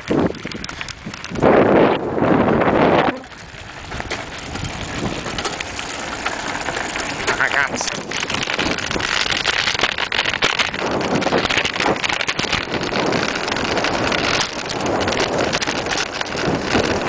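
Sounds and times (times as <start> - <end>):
bike clattering over bumps: 0.0 - 17.0
tyres crunching over gravel: 0.0 - 17.0
wind buffeting microphone: 0.0 - 17.0.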